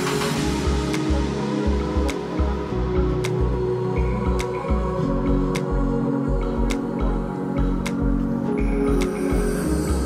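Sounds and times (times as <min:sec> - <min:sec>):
background music with pulsing bass: 0:00.0 - 0:10.0.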